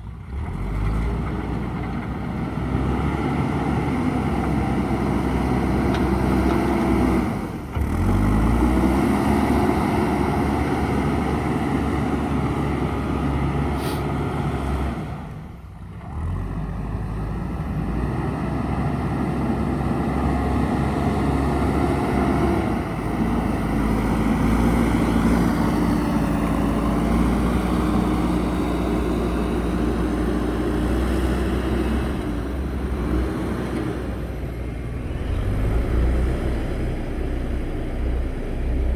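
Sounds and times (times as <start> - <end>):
diesel engine revving under load: 0.0 - 38.9.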